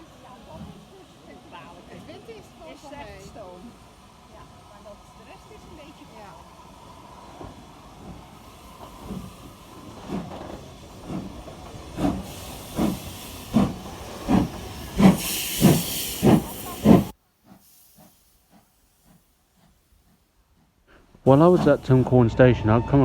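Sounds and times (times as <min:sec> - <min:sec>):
steam hiss: 0:00.0 - 0:22.5
steam locomotive chuffing: 0:00.0 - 0:23.0.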